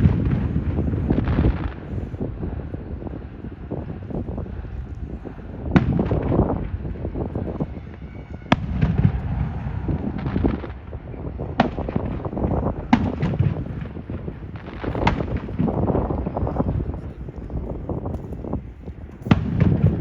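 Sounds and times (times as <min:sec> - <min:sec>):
fireworks bangs: 0:00.0 - 0:20.0
rumble and crackling: 0:00.0 - 0:20.0.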